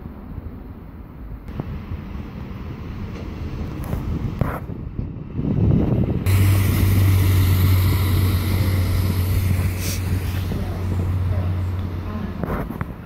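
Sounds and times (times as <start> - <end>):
low rumble: 1.5 - 13.0
train diesel engine humming: 1.5 - 13.0.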